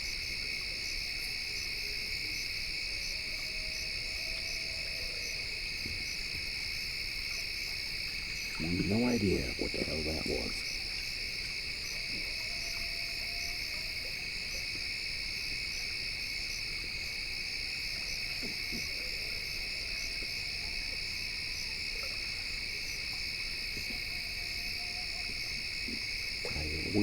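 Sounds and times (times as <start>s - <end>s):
night insects chorus: 0.0s - 27.0s.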